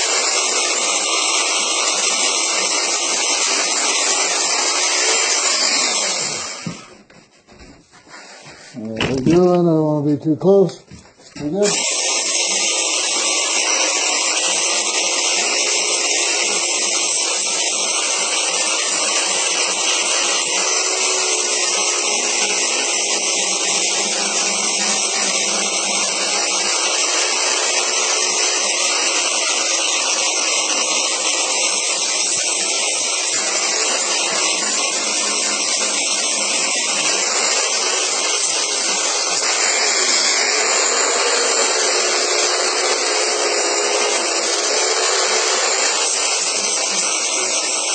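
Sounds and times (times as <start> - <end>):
belt sander on wood: 0.0 - 7.2, 11.4 - 47.9.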